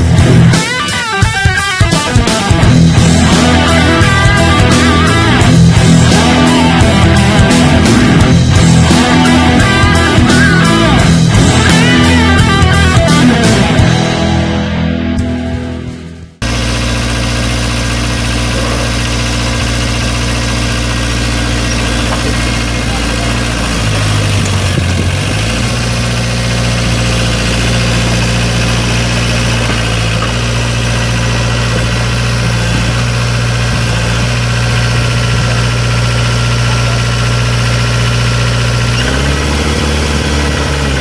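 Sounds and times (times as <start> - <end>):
dozer engine running: 0.0 - 41.0.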